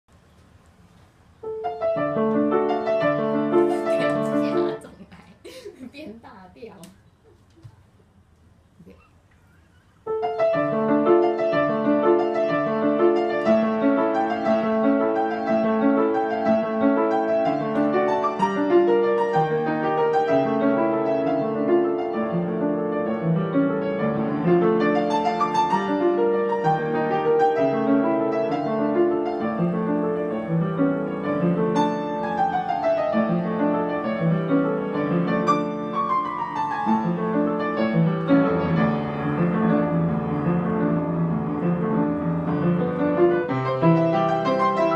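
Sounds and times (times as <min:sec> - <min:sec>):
piano playing: 0:01.4 - 0:05.0, 0:10.0 - 0:44.9.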